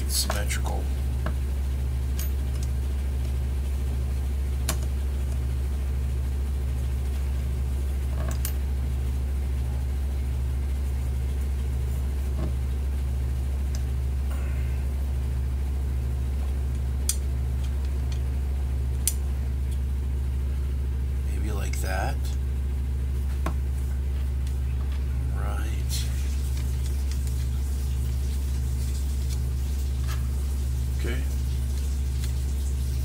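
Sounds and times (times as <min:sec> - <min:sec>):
low throbbing hum: 0:00.0 - 0:33.0.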